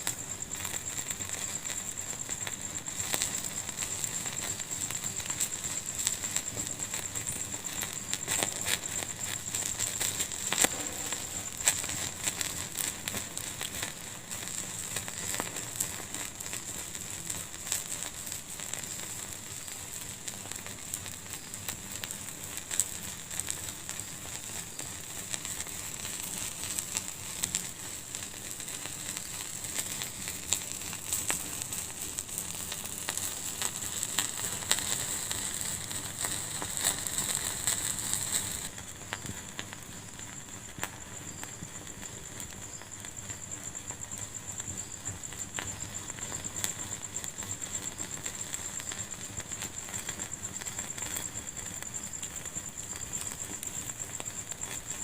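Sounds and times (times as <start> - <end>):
fire hiss: 0.0 - 55.0
wood fire crackling and popping: 0.0 - 55.0.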